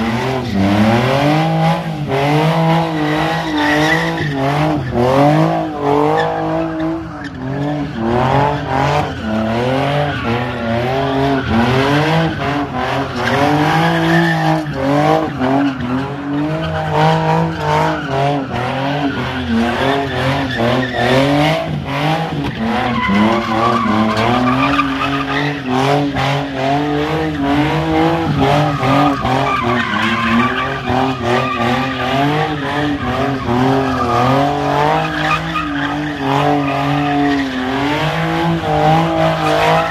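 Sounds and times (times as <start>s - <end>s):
car engine revving hard: 0.0s - 39.9s
tyres squealing on pavement: 2.8s - 21.7s, 22.3s - 39.9s.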